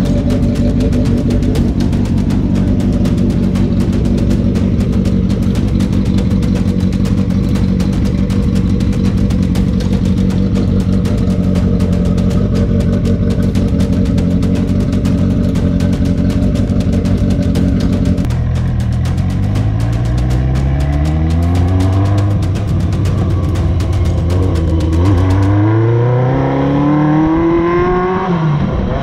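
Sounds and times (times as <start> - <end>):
motorcycle engine idling: 0.0 - 26.1.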